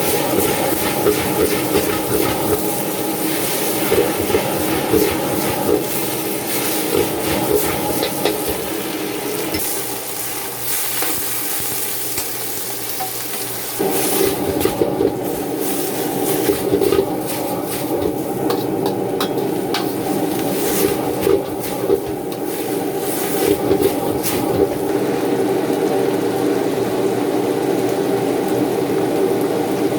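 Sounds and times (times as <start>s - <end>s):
food sizzling in a wok: 0.0s - 29.9s.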